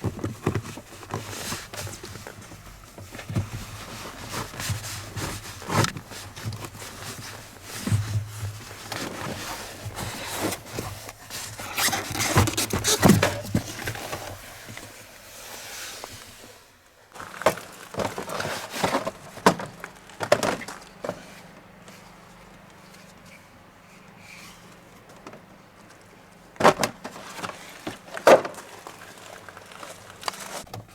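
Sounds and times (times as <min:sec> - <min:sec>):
rustling and scraping: 0:00.0 - 0:30.9.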